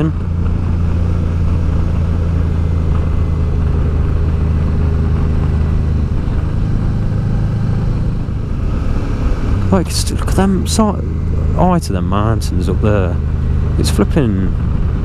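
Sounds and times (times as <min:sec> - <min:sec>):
motorcycle engine cruising: 0:00.0 - 0:15.0
road noise: 0:00.0 - 0:15.0.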